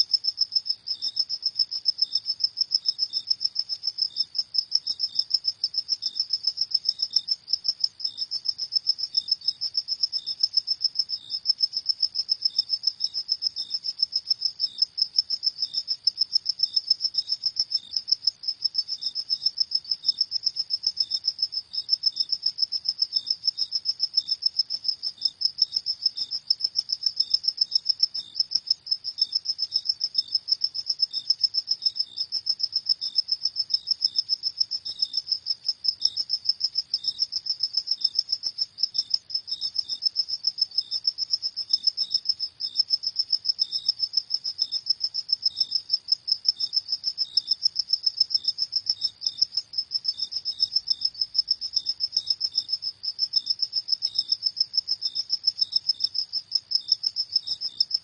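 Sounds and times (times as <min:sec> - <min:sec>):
fainter cricket chirping: 0:00.0 - 0:58.0.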